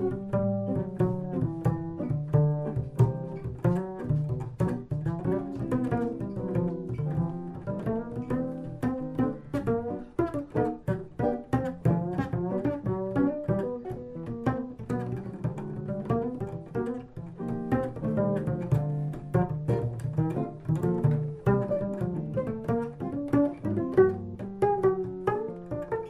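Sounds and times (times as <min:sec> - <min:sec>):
double bass plucked: 0:00.0 - 0:26.0.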